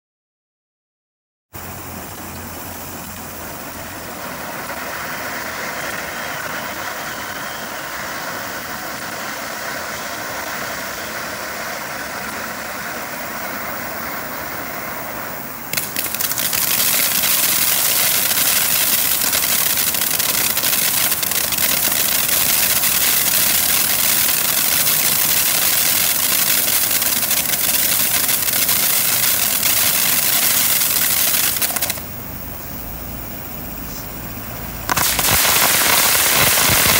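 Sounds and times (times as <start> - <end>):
firework fountain hissing and crackling: 1.6 - 36.9.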